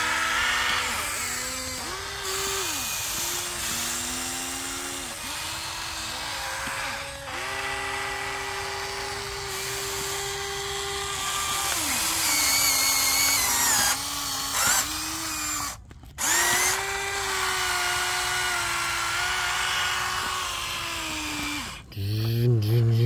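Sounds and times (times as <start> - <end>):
toy excavator motors whining: 0.0 - 23.0.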